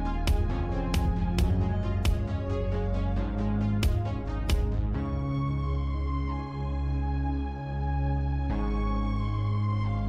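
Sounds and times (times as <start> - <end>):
slow sustained music chords: 0.0 - 10.0.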